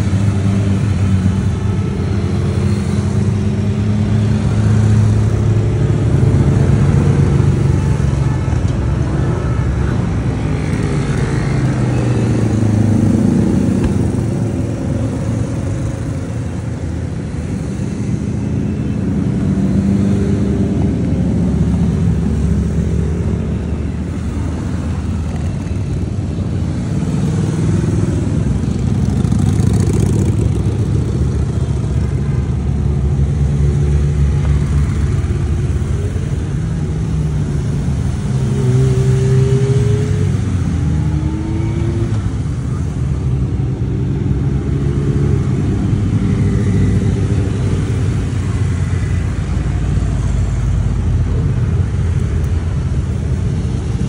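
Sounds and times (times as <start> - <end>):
motorcycles passing: 0.0 - 54.0.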